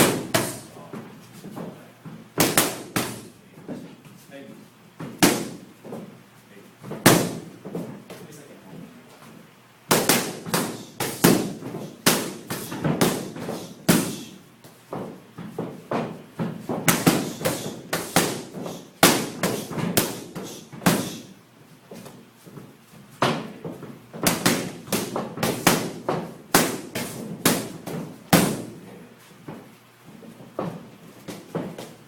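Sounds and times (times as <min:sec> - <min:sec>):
boxing gloves striking focus mitts: 0:00.0 - 0:03.4, 0:05.0 - 0:06.1, 0:06.8 - 0:08.2, 0:09.9 - 0:28.8, 0:29.4 - 0:32.0.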